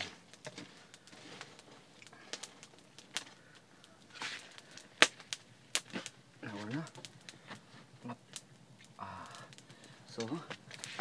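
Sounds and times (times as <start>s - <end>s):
wooden sticks clicking on embers: 0.0s - 11.0s.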